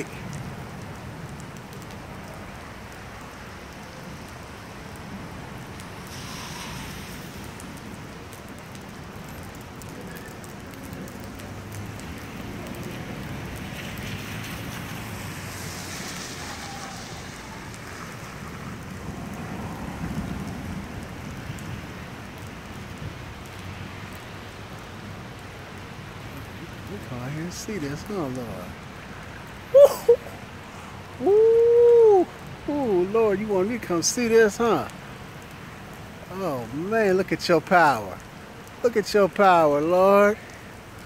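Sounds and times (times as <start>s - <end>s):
rain on pavement and cars: 0.0s - 41.0s.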